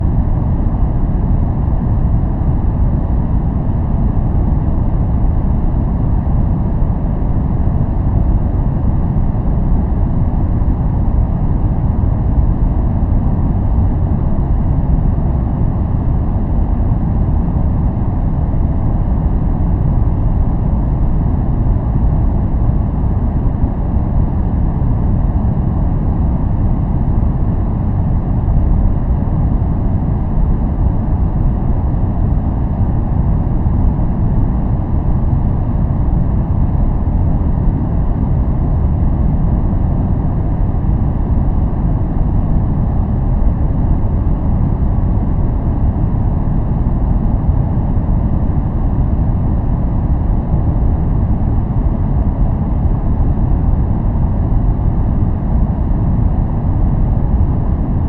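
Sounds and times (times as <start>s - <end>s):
deep steady noise: 0.0s - 58.0s.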